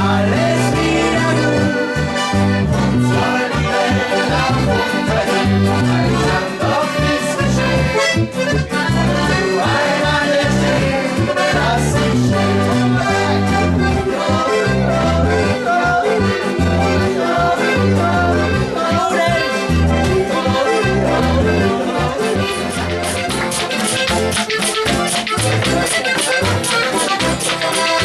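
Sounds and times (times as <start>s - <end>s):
button accordion: 0.0s - 28.0s
folk-pop band with accordion: 0.0s - 28.0s
steady bass beat: 0.0s - 28.0s.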